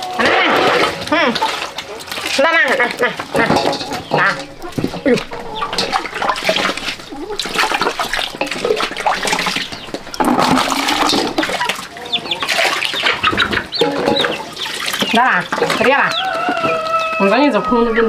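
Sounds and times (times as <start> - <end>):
water pouring into a bucket: 0.0 - 17.2
chickens clucking: 0.0 - 18.0.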